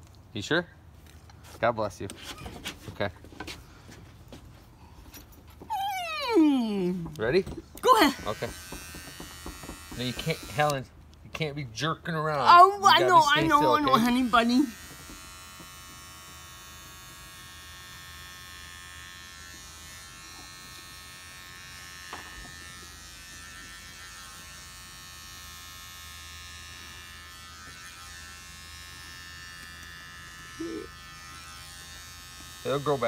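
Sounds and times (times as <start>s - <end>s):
electric trimmers buzzing: 6.1s - 33.0s.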